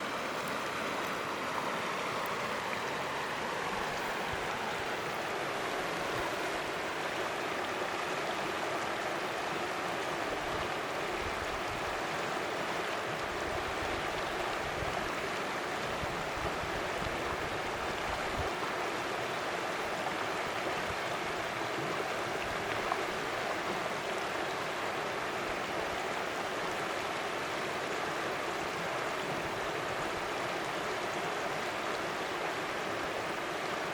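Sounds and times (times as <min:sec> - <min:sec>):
creek water rushing: 0:00.0 - 0:33.9.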